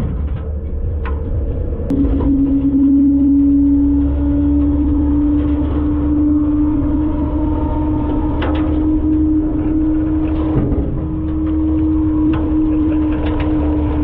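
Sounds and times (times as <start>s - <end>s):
garbage truck diesel engine rumbling: 0.0s - 14.0s
steady hum: 0.0s - 14.0s.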